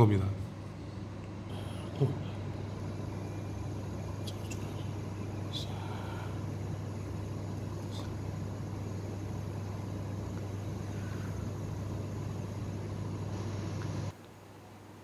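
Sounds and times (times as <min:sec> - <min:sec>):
low machine hum: 0:00.0 - 0:15.0
even hiss: 0:01.5 - 0:14.2.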